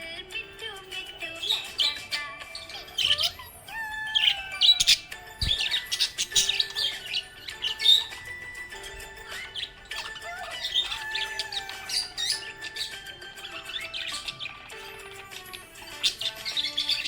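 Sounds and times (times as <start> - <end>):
budgerigar chirping and warbling: 0.4 - 17.0.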